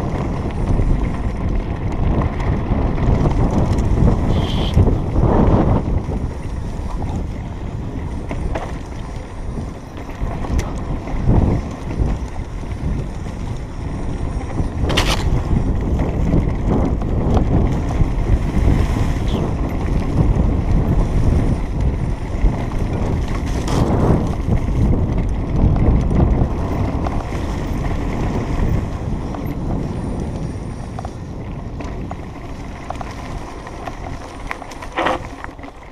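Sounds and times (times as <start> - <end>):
bike rattling over dirt trail: 0.0 - 35.9
wind buffeting microphone: 0.0 - 35.9.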